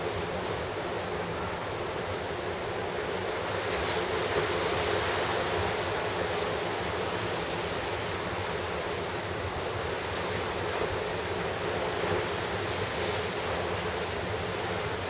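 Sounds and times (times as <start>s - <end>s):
ocean surf crashing: 0.0s - 15.0s.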